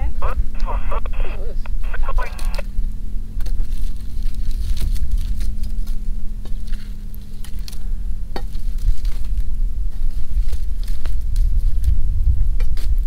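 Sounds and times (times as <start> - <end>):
heavy low rumble: 0.0 - 13.0
steady low hum: 0.0 - 13.0.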